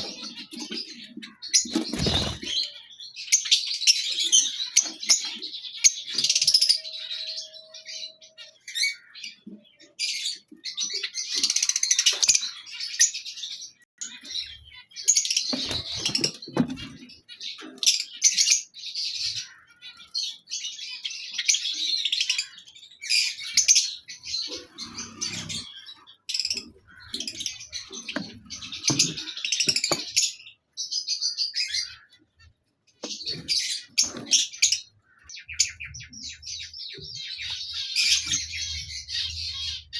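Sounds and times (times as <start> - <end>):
lovebirds chirping and squeaking: 0.0 - 39.9.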